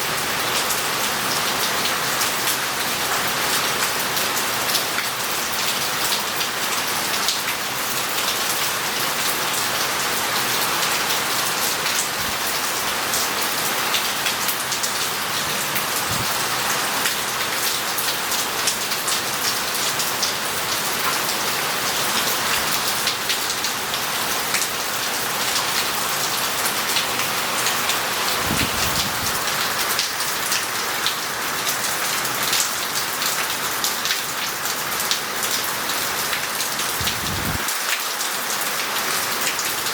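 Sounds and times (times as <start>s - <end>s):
heavy rain on roof: 0.0s - 39.9s.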